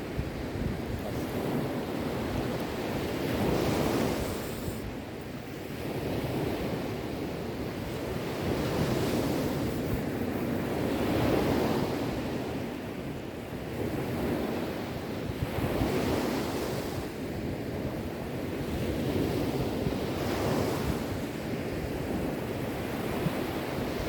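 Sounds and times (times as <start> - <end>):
sea waves breaking on shore: 0.0 - 24.0.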